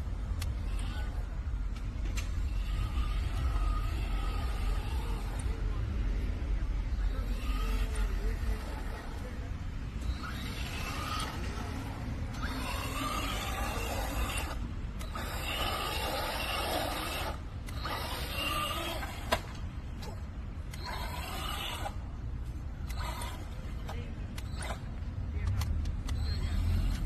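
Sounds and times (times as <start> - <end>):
rc truck motor whine: 0.0 - 27.0.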